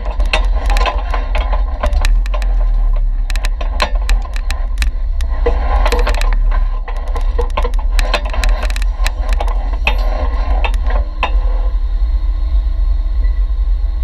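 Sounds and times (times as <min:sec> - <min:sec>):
tyres knocking over rocks: 0:00.0 - 0:11.4
engine rumble: 0:00.0 - 0:14.0.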